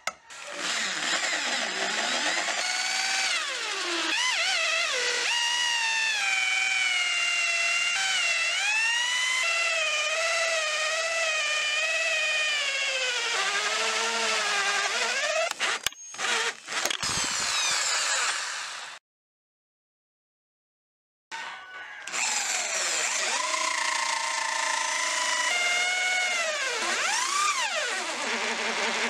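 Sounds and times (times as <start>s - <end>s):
power tool motor whining: 0.0s - 19.0s, 22.0s - 29.0s.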